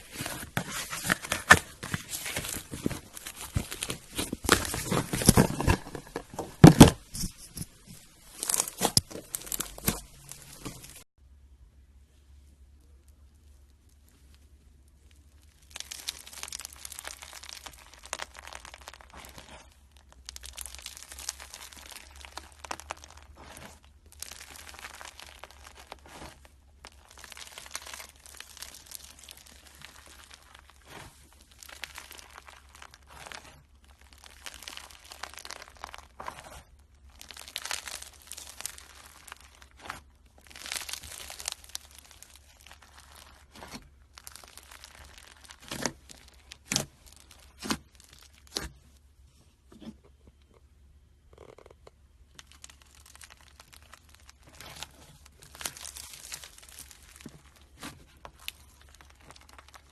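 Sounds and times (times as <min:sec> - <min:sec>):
slime crackling and crinkling: 0:00.0 - 0:11.1, 0:12.8 - 0:59.9.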